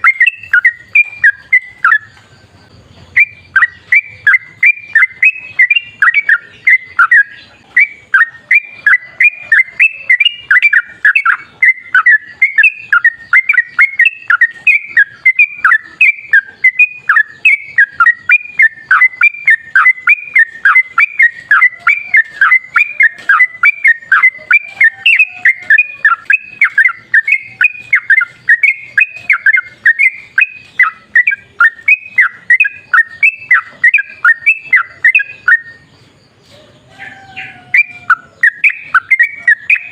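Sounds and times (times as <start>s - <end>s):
bulbul singing bubbly whistles: 0.0s - 2.3s, 3.1s - 35.9s, 37.7s - 39.9s.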